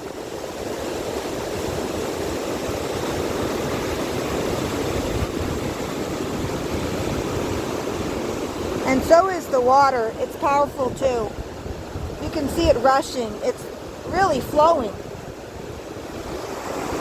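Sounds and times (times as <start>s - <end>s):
waterfall roaring: 0.0s - 17.0s
wind buffeting microphone: 0.0s - 17.0s.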